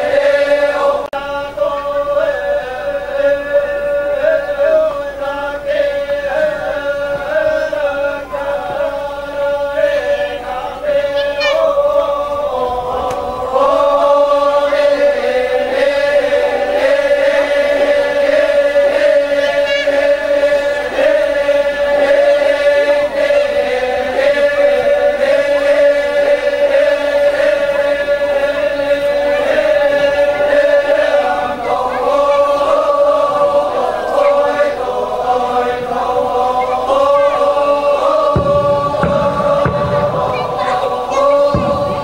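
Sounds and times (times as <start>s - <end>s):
group of voices chanting: 0.0s - 42.0s.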